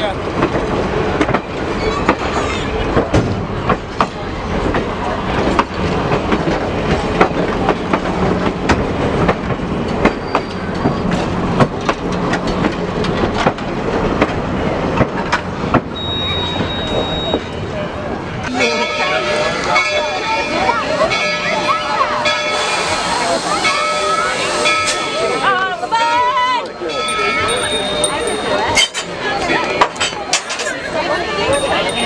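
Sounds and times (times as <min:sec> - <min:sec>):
railroad cars rumbling: 0:00.0 - 0:32.0
railroad wheels clicking over joints: 0:00.0 - 0:32.0.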